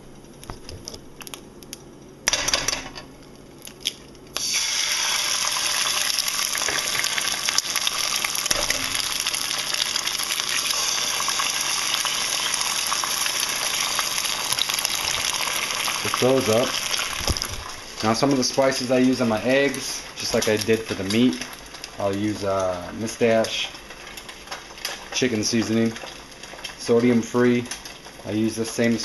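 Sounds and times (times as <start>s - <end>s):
eggs sizzling in a pan: 3.4s - 29.0s.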